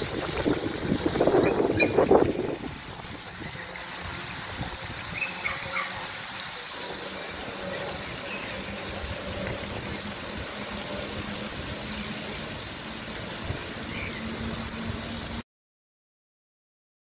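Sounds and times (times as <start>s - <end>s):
constant low hum: 0.0s - 15.4s.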